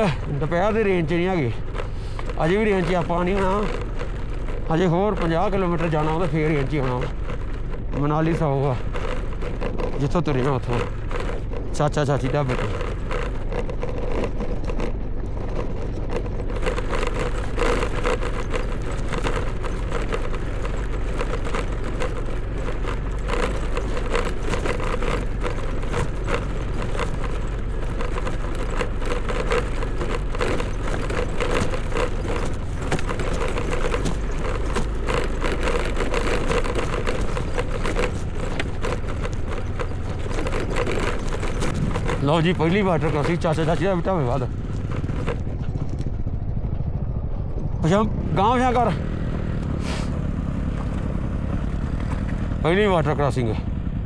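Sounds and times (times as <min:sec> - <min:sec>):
motorcycle engine running: 0:00.0 - 0:54.0
rattling and clatter: 0:00.0 - 0:54.0.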